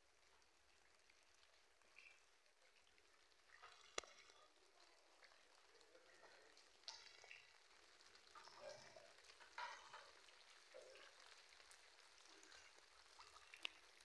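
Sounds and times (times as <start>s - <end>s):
light rain patter: 0.0s - 14.0s
soft ticks and rustles: 0.0s - 14.0s.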